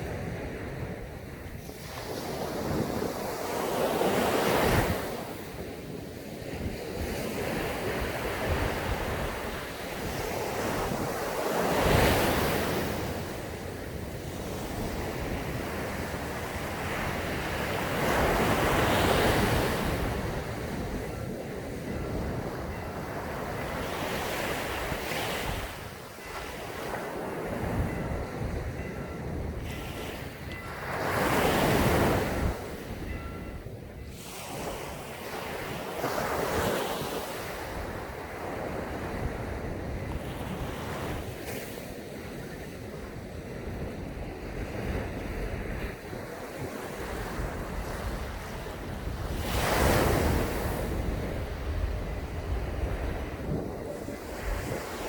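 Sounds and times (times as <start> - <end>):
sea waves breaking on beach: 0.0 - 55.0
wind on microphone: 0.0 - 55.0.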